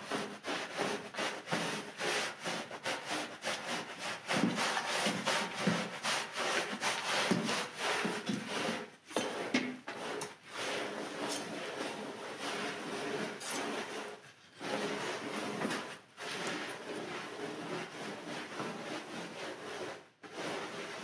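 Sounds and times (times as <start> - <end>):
scrub brush scrubbing wet rug: 0.0 - 21.0.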